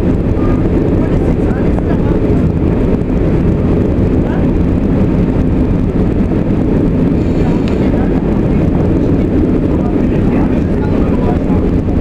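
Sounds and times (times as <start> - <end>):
diesel engine drone: 0.0 - 12.0
wheels rumbling on rails: 0.0 - 12.0.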